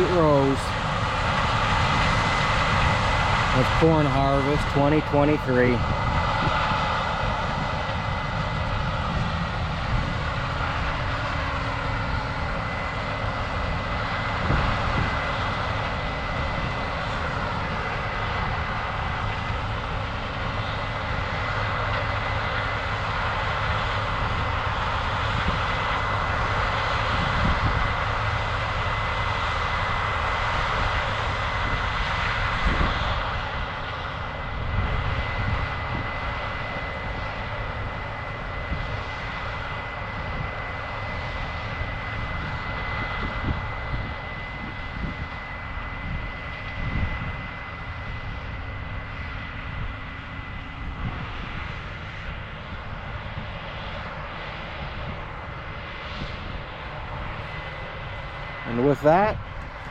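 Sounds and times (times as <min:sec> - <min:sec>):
combine harvester drone: 0:00.0 - 0:59.9.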